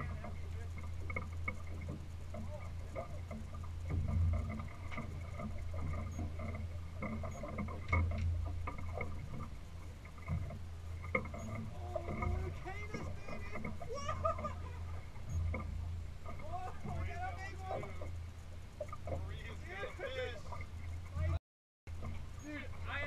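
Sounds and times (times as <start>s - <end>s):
clicks of rods and reels: 0.0s - 23.0s
water around boat: 0.0s - 23.0s.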